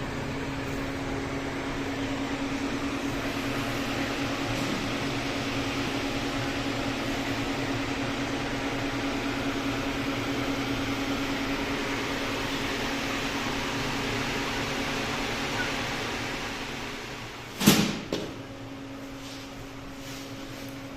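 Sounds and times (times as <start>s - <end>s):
electric machinery humming: 0.0s - 20.9s.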